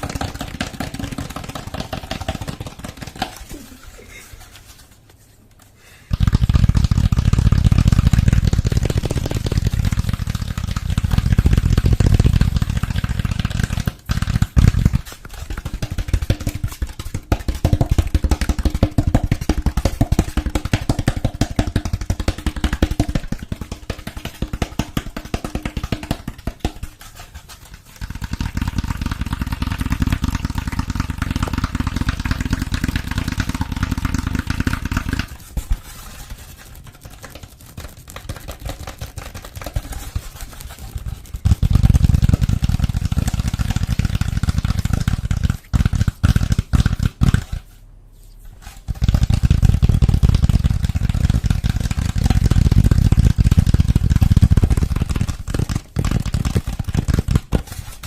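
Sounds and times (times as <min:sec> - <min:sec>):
rapid tapping and scratching: 0:00.0 - 0:05.2, 0:06.1 - 0:47.8, 0:48.6 - 0:58.0.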